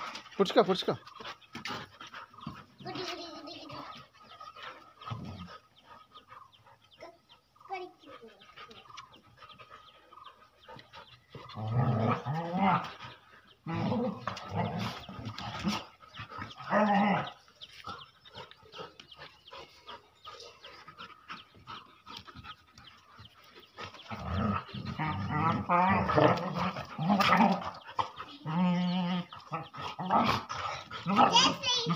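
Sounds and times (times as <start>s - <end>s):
dogs playing and vocalizing: 0.0s - 31.9s.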